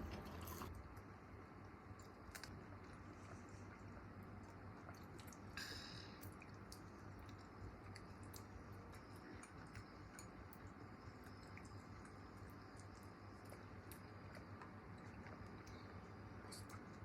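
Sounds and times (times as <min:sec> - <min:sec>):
low steady hum: 0:00.0 - 0:17.0
faint chewing and clicks: 0:00.1 - 0:17.0.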